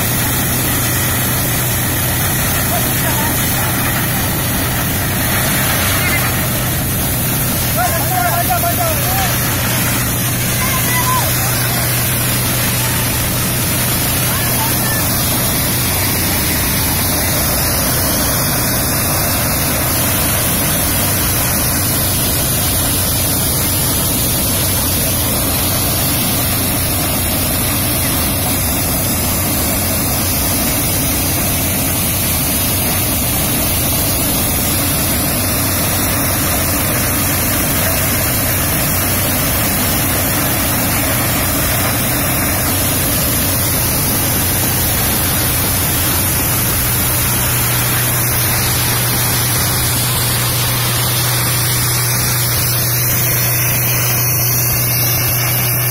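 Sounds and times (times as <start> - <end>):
maize thresher running: 0.0 - 55.9.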